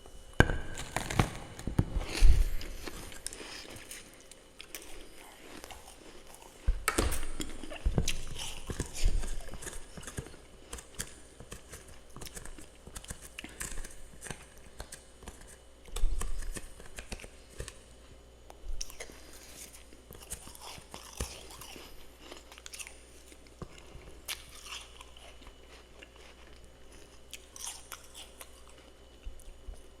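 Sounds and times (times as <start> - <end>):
chewing crunchy frost: 0.7 - 30.0.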